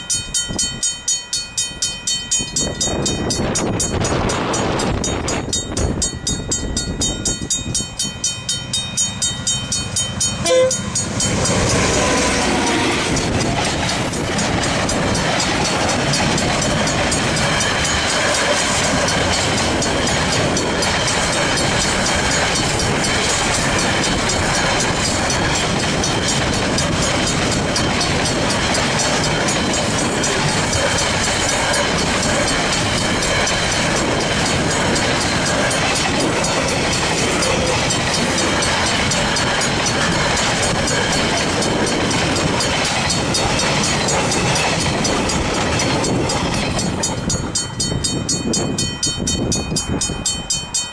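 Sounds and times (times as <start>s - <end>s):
train wheels clattering over rails: 9.1s - 50.4s.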